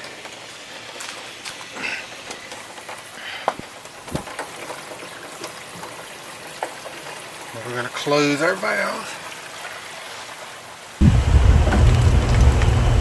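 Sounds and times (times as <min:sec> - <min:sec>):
water splashing from a hose: 0:00.0 - 0:13.0.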